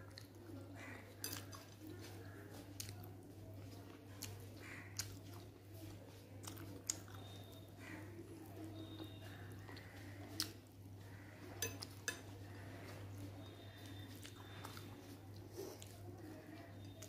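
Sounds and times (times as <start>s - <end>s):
soft chewing: 0.0s - 17.0s
fingers mixing food on plate: 0.1s - 17.0s.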